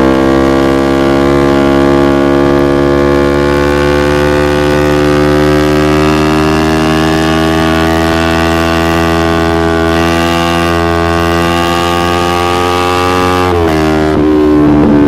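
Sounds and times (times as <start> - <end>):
motorcycle engine revving steadily: 0.0 - 15.0.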